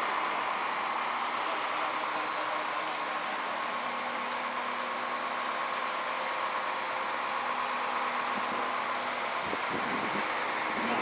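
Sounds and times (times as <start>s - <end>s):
crane engine humming: 0.0s - 11.0s.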